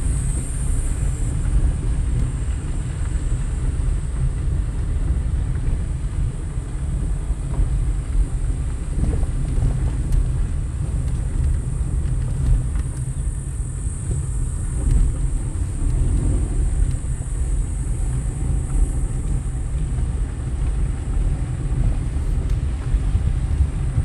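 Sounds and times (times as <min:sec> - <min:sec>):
car rumbling on gravel: 0:00.0 - 0:24.0.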